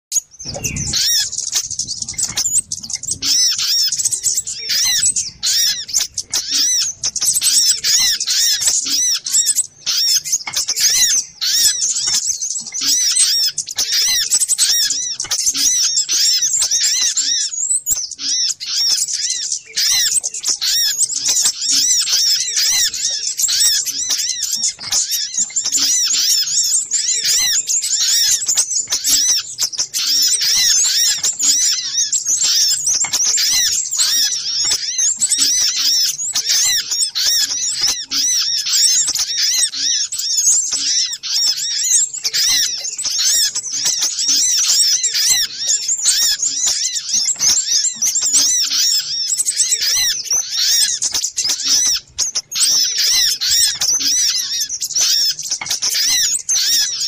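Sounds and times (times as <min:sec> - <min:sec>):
sunbirds chirping: 0:00.1 - 0:57.0.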